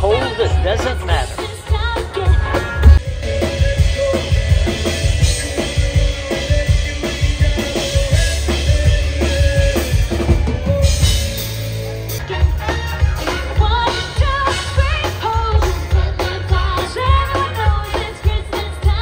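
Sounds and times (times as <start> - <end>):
deep bass line: 0.0 - 19.0
drum kit beat: 0.0 - 19.0
pop-rock band playing live: 0.0 - 19.0.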